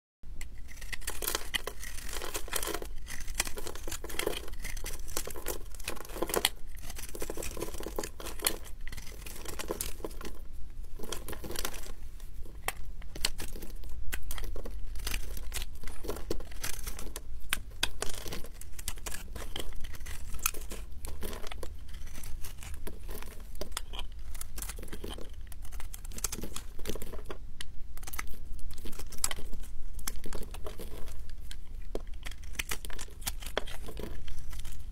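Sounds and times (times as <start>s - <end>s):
knife blade scraping soap: 0.4s - 10.4s, 11.0s - 27.4s, 28.0s - 34.9s.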